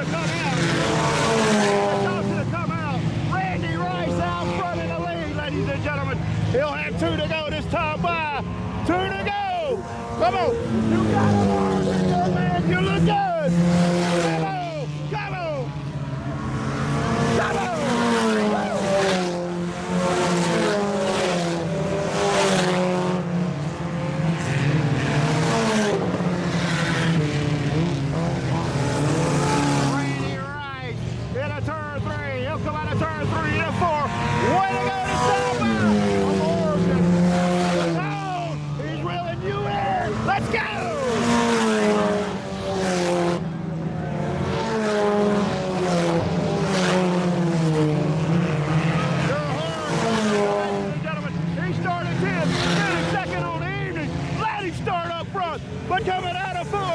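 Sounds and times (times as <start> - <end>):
race car engines droning: 0.0 - 56.9.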